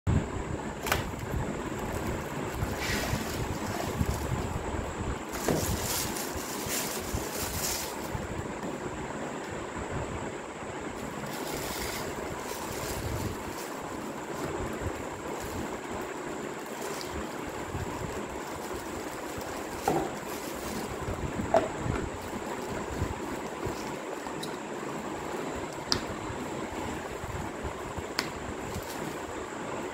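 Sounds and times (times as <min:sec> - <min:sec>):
steady background hiss: 0:00.1 - 0:29.9.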